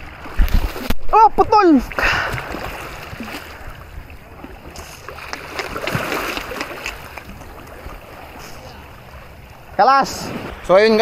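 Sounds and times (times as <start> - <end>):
waves splashing over rocks: 0.0 - 11.0.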